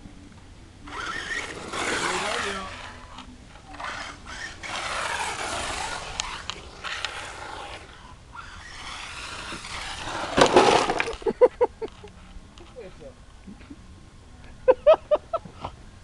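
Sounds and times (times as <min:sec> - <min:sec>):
rc car tyre and motor noise: 0:00.0 - 0:13.2.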